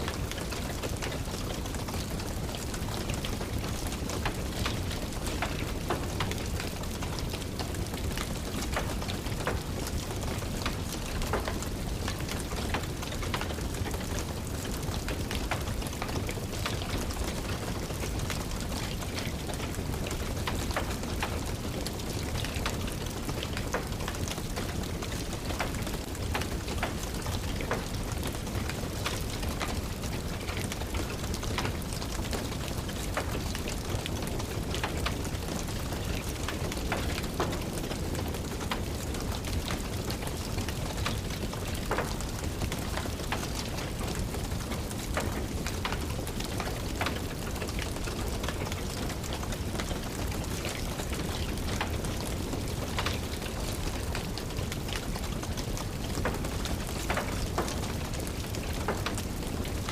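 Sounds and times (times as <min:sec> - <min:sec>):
steady rain: 0:00.0 - 0:59.9
wood fire crackling and popping: 0:00.1 - 0:59.9.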